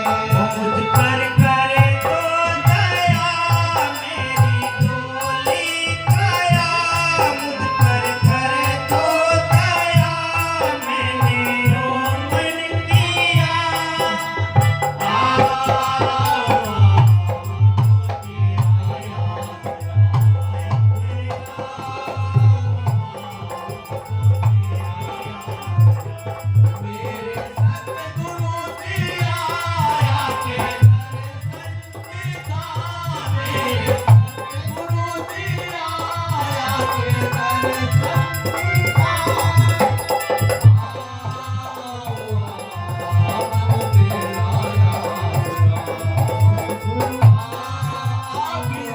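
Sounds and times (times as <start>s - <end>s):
person singing a hymn: 0.0s - 17.8s, 18.4s - 48.9s
rattling percussion: 0.0s - 48.9s.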